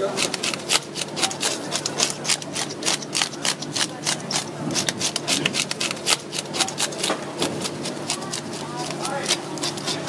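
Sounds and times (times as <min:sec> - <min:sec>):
fish scaler scraping scales: 0:00.0 - 0:10.0.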